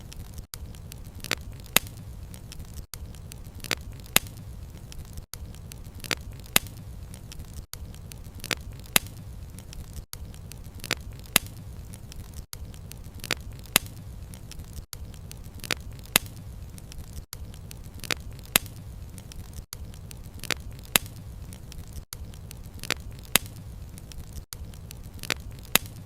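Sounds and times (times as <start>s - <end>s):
fire crackling with wood pops: 0.0s - 26.0s.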